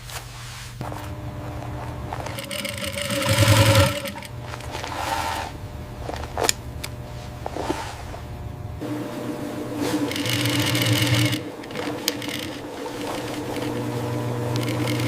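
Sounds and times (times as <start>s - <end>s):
sewing machine motor hum: 0.8s - 15.0s.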